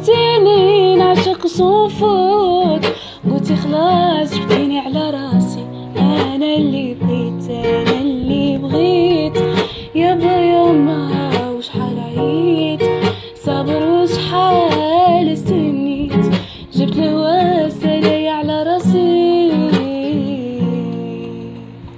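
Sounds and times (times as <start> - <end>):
strummed acoustic guitar: 0.0 - 21.9
woman singing: 0.0 - 21.9.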